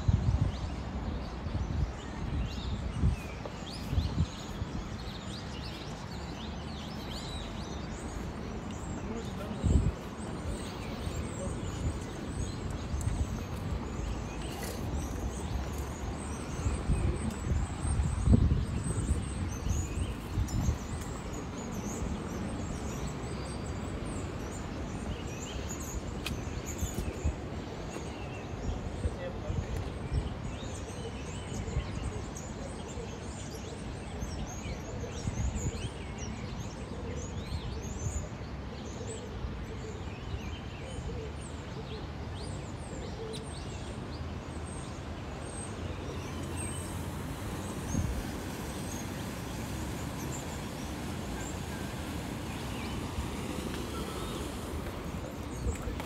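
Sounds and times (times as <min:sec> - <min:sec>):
small birds chirping: 0:00.0 - 0:36.8, 0:42.3 - 0:56.0
steady background noise: 0:00.0 - 0:56.0.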